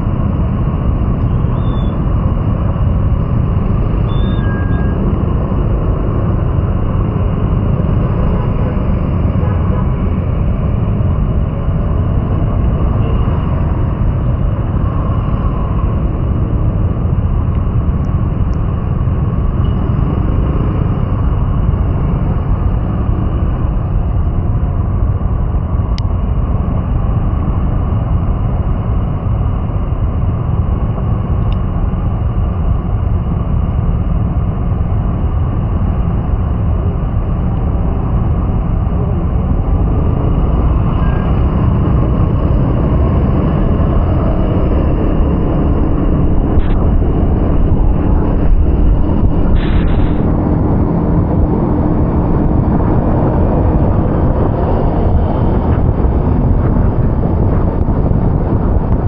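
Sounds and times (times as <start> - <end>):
vehicle road rumble: 0.0 - 59.0.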